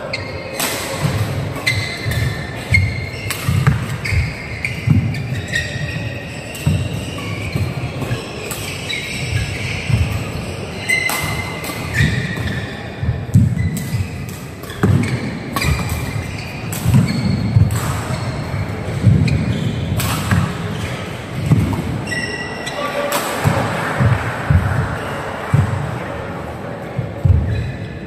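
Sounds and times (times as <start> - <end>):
racket hitting shuttlecock: 0.2 - 26.0.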